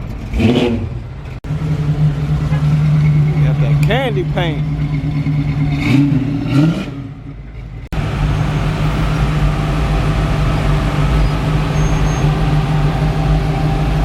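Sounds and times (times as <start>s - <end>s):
car engine idling: 0.0s - 14.0s
engine revving: 0.0s - 14.0s.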